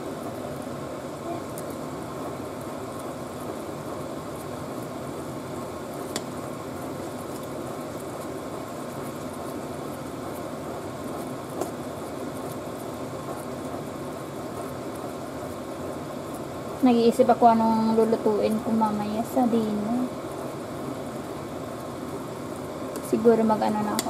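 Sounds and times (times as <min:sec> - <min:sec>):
rice simmering in pot: 0:00.0 - 0:24.0.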